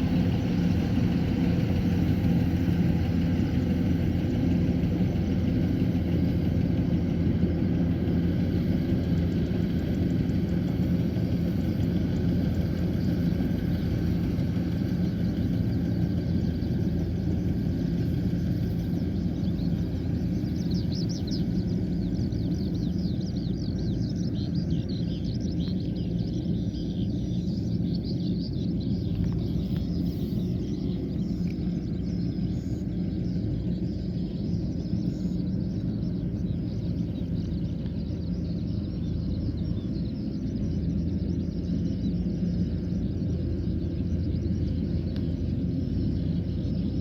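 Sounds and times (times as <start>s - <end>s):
combine harvester engine hum: 0.0s - 47.0s.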